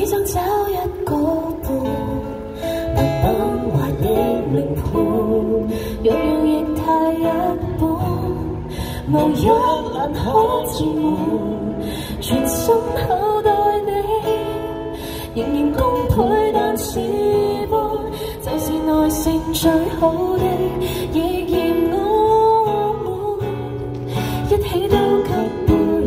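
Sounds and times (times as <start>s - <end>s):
acoustic guitar: 0.0s - 26.0s
woman singing: 0.0s - 26.0s.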